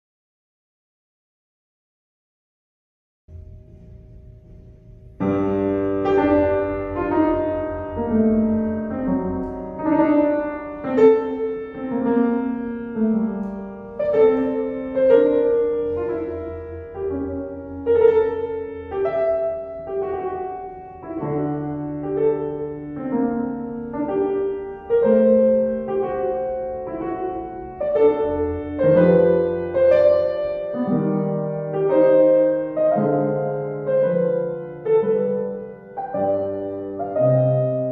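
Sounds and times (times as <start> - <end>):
upright piano playing classical piece: 3.3 - 37.9.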